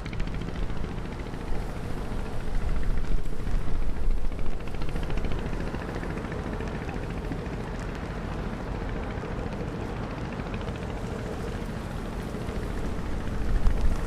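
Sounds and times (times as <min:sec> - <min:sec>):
faint steady drone: 0:00.0 - 0:14.0
wind buffeting microphone: 0:00.0 - 0:14.0.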